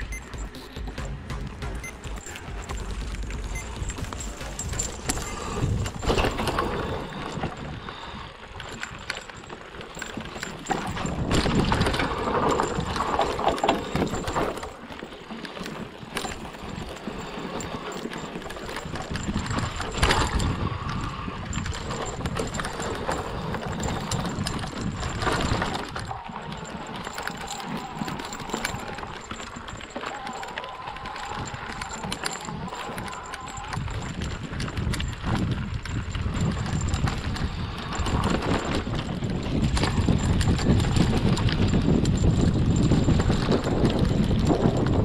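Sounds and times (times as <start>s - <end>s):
bike rattling over bumps: 0.0s - 45.0s
tyres rolling over dirt: 0.0s - 45.0s.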